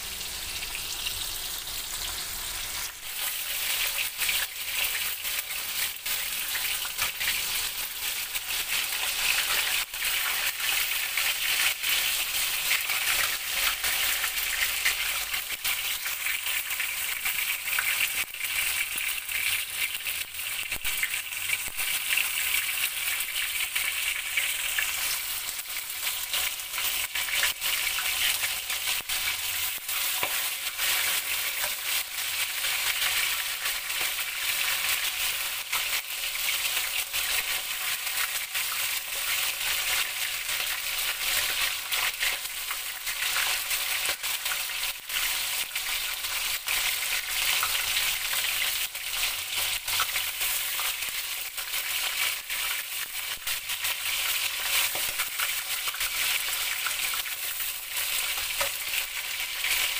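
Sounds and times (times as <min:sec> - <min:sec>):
chicken frying in hot oil: 0:00.0 - 0:59.9.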